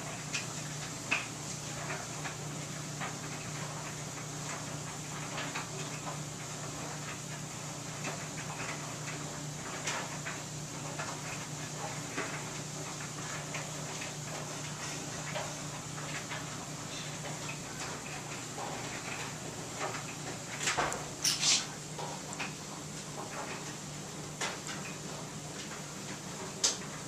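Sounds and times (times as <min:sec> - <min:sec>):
clothes dryer humming: 0:00.0 - 0:27.0.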